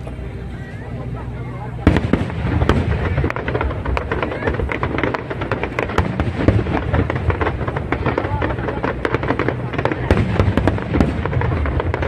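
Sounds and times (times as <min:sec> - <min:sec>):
fireworks crackling and banging: 0:00.0 - 0:12.0
low rumble: 0:00.0 - 0:12.0.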